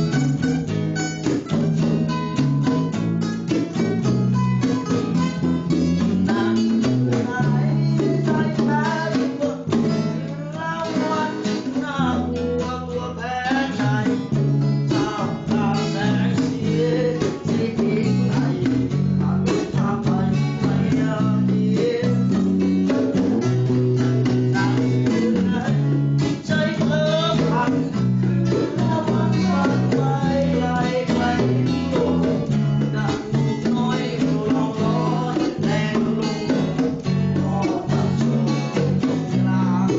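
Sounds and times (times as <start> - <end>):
guitar-led song with beat: 0.0 - 39.9.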